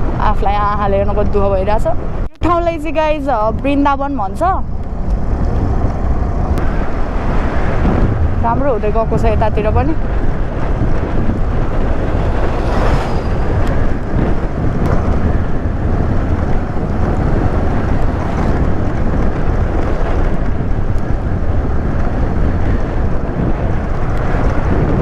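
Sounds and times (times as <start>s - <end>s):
road noise: 0.0s - 25.0s
wind buffeting microphone: 0.0s - 25.0s.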